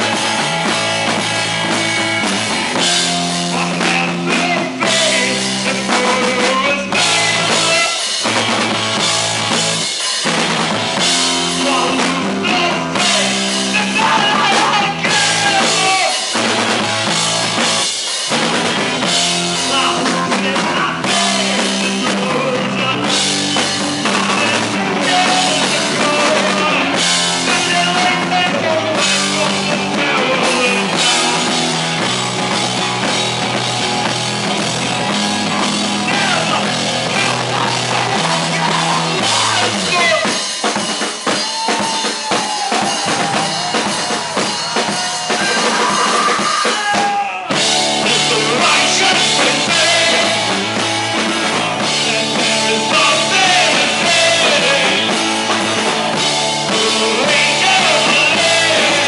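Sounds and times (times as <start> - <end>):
loud drum kit: 0.0 - 59.0
punk rock band playing live: 0.0 - 59.0.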